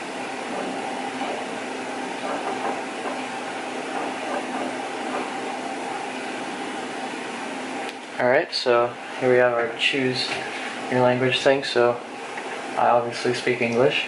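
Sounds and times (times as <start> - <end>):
computer fan and disc drive whirring: 0.0 - 14.0.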